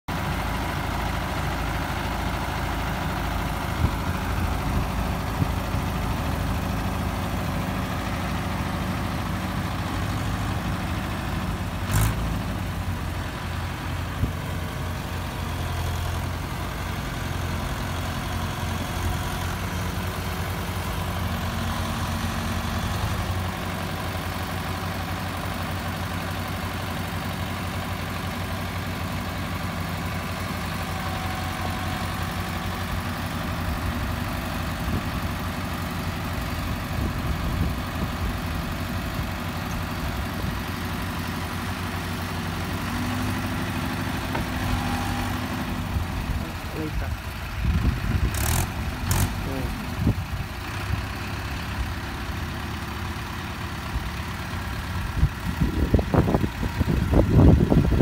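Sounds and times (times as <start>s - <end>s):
diesel engines idling: 0.1s - 58.0s.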